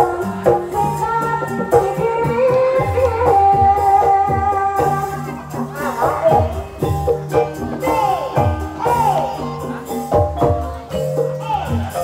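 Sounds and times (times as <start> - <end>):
drum strokes: 0.0 - 12.0
gamelan music: 0.0 - 12.0.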